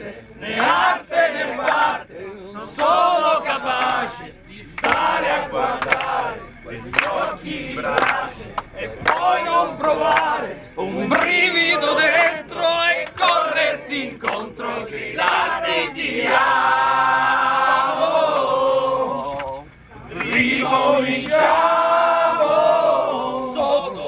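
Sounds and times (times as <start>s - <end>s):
men singing and chanting: 0.0s - 24.0s.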